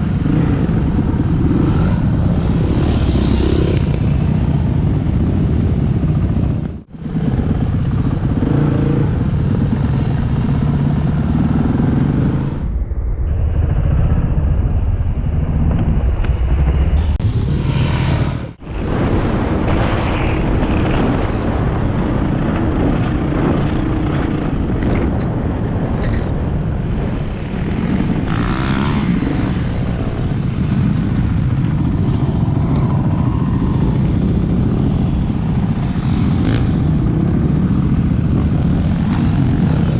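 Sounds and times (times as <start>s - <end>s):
motorcycle engines running: 0.0s - 12.7s, 19.3s - 39.9s.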